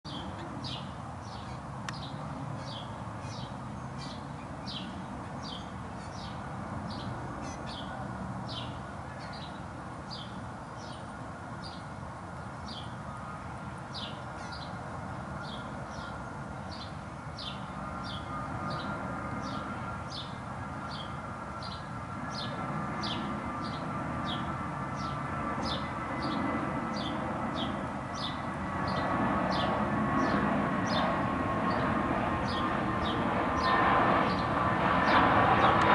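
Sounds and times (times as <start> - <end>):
steady background hum: 0.1 - 35.9.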